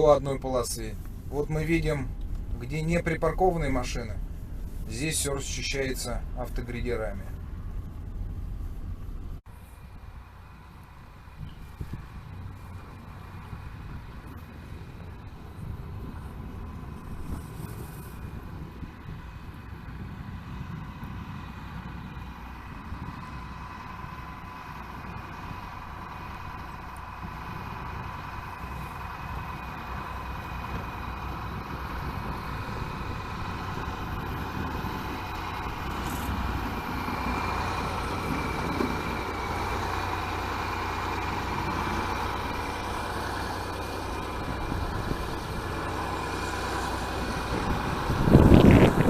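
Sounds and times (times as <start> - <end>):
engine rumble with high whine: 0.0 - 49.0.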